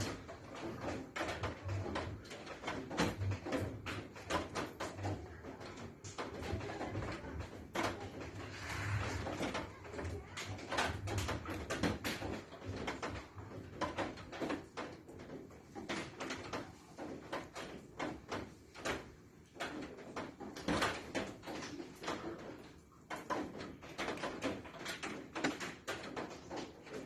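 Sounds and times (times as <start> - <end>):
irregular knocks and clicks: 0.0 - 27.0.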